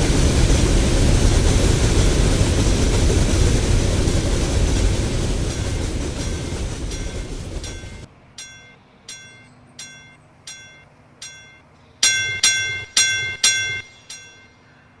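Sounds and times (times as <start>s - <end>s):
bell struck: 0.0s - 15.0s.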